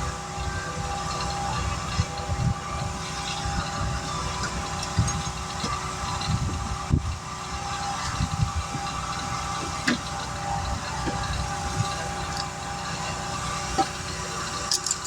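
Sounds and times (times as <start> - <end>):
motor running: 0.0 - 15.0.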